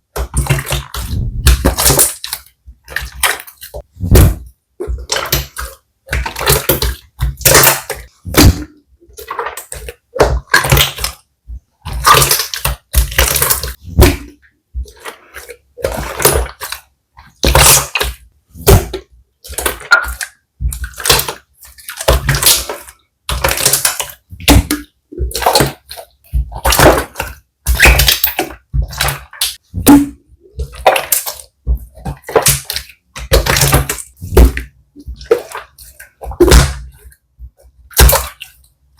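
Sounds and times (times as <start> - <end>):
slime squelching by hand: 0.0 - 38.9.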